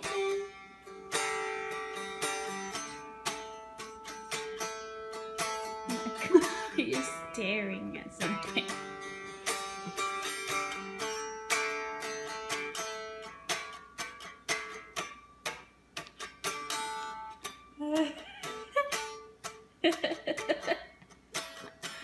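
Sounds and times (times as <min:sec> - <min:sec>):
guitar picking: 0:00.0 - 0:22.0.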